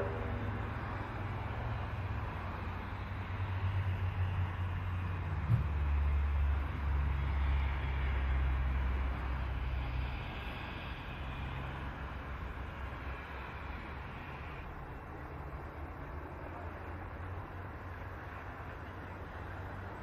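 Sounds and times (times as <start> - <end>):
steam locomotive rumble: 0.0 - 20.0.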